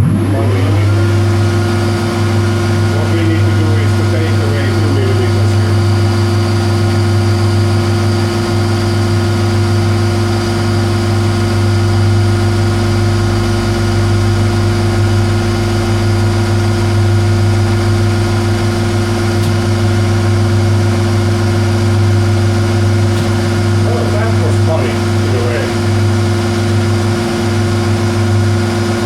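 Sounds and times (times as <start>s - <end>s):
metal lathe running: 0.0s - 29.0s.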